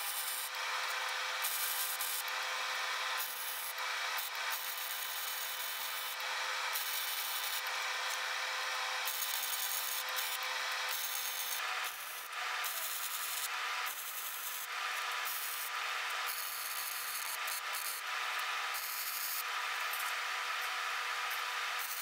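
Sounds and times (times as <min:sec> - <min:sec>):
grinder grinding steel: 0:00.0 - 0:22.0
grinder motor whine: 0:00.0 - 0:22.0.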